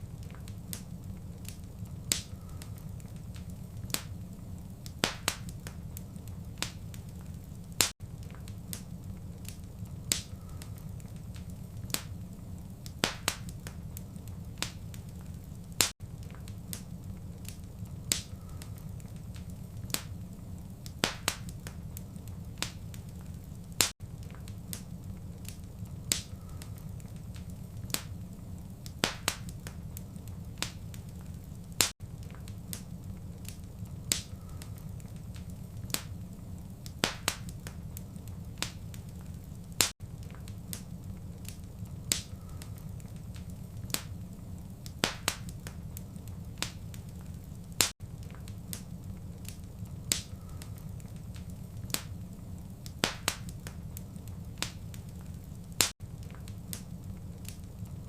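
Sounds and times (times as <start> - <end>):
fire pops and snaps: 0.0 - 58.0
low rumble of flame: 0.0 - 58.0.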